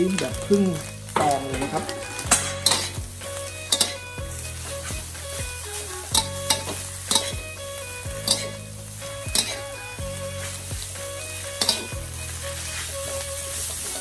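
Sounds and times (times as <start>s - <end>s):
noodles sizzling in a wok: 0.0s - 14.0s
metal spatula scraping a wok: 0.2s - 14.0s.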